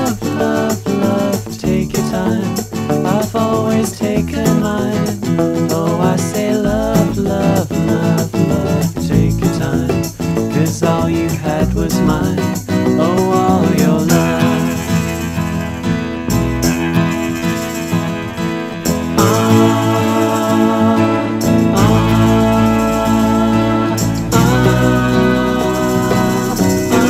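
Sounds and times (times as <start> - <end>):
band music with guitar: 0.0 - 27.0
bass and percussion: 0.0 - 27.0.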